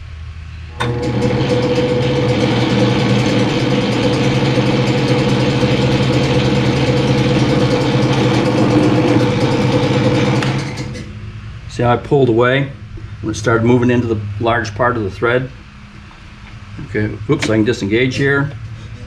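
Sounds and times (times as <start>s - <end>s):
metal lathe humming: 0.7s - 19.0s.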